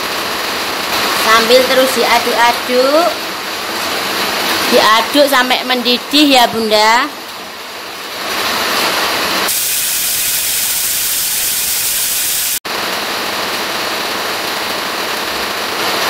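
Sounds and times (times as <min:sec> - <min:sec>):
heavy rain pouring: 0:00.0 - 0:10.2, 0:12.6 - 0:16.0.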